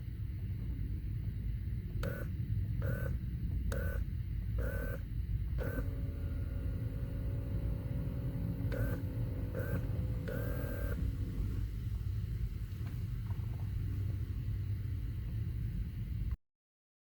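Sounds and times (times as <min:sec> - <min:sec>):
vehicle low rumble: 0:00.0 - 0:16.4.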